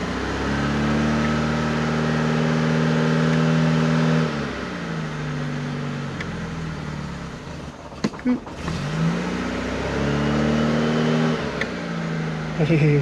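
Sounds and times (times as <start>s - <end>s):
car engine idling: 0.0s - 9.9s, 11.2s - 13.0s.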